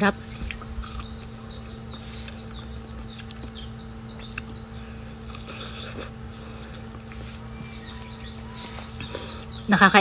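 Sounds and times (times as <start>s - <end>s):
birds chirping: 0.0s - 10.0s
chewing strawberries: 0.1s - 9.9s.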